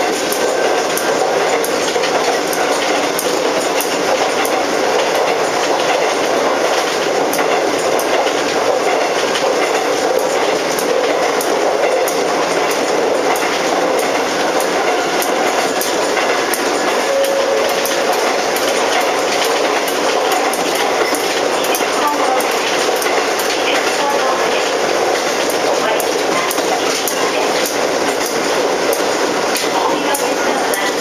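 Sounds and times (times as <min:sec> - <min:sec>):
train running interior: 0:00.0 - 0:31.0
wheels clicking over rail joints: 0:00.0 - 0:31.0.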